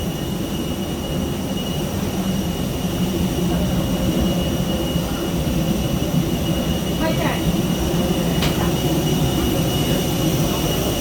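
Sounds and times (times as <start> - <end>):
jet turbine whine: 0.0 - 11.0.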